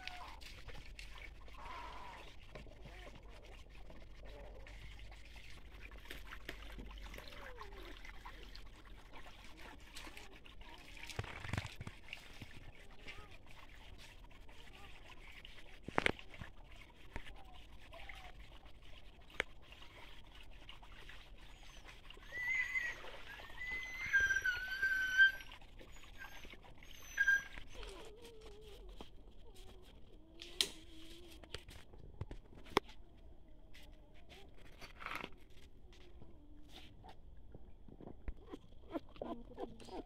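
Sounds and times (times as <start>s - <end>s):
water trickling: 0.0s - 33.0s.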